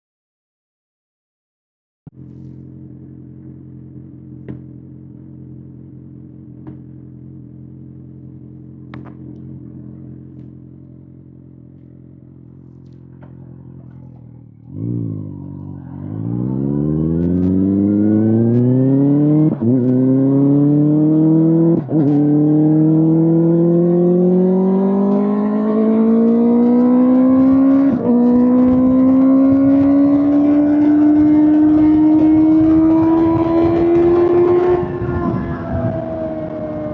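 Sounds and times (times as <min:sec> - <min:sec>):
motorcycle engine idling and revving: 0:02.1 - 0:36.9.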